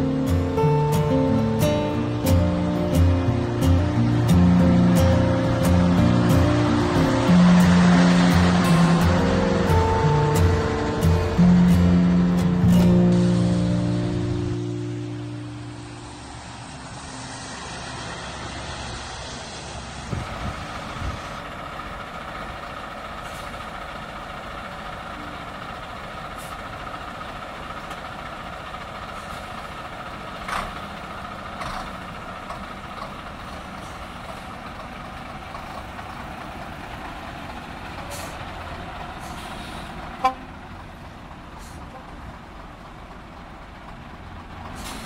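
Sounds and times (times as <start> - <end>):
diesel trucks running: 0.0 - 45.0.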